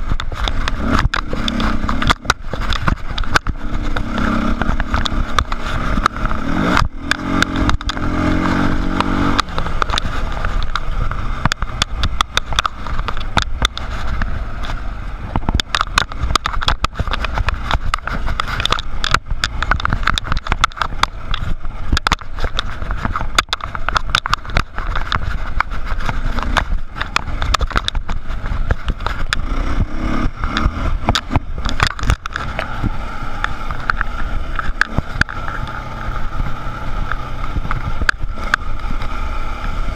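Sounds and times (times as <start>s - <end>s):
dirt bike engine revving: 0.0s - 23.0s, 23.7s - 39.9s
bike rattling over rocks: 0.0s - 39.9s.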